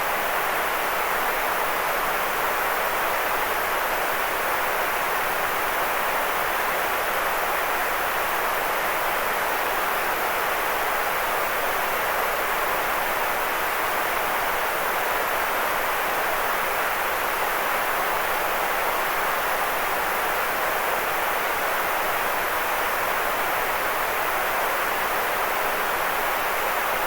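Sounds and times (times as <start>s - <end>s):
white noise hiss: 0.0s - 27.0s.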